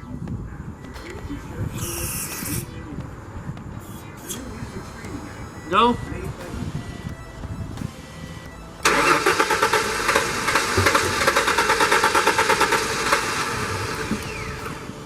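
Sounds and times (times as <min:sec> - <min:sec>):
car engine cranking: 0:00.9 - 0:15.0.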